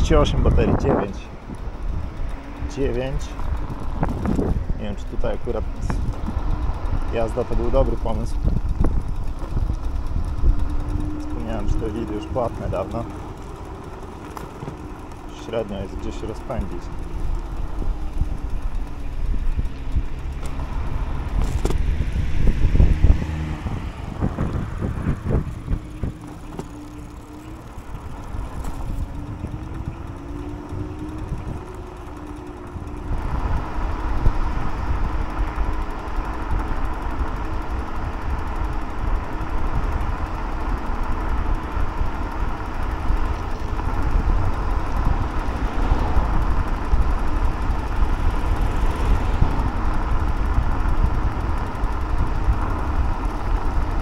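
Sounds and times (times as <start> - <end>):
road noise: 0.0 - 54.0
wind buffeting microphone: 0.0 - 54.0
faint motor whine: 0.1 - 54.0.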